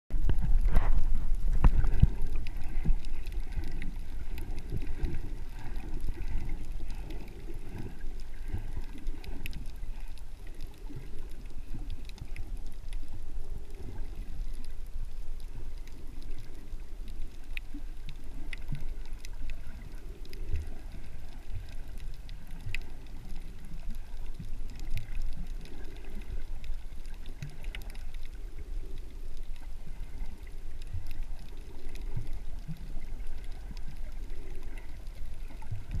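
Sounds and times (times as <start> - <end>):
muffled underwater rush: 0.1 - 36.0
faint clicks: 0.2 - 36.0.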